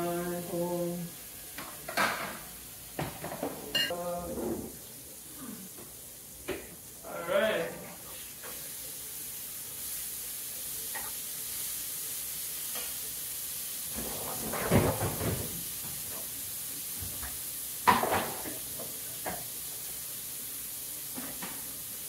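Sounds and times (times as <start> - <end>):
sausages sizzling in a pot: 0.0 - 22.0.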